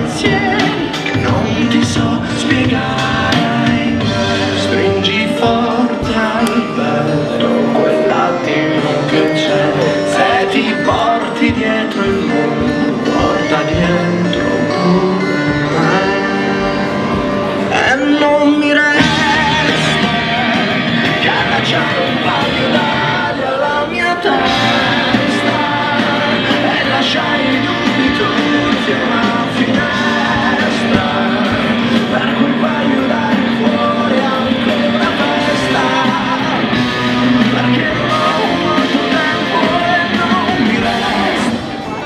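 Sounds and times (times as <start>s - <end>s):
song with singer and band: 0.0s - 42.0s.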